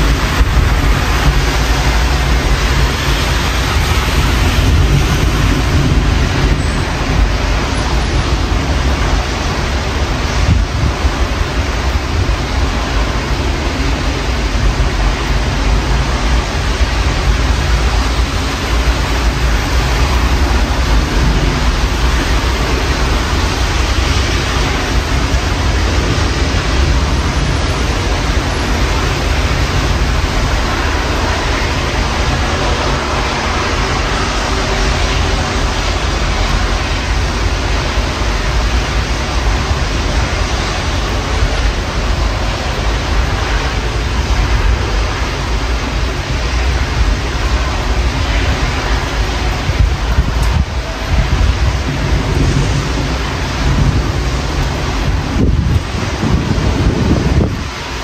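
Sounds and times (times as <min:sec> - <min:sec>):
steady rain hiss: 0:00.0 - 0:58.0
wind buffeting microphone: 0:00.0 - 0:58.0.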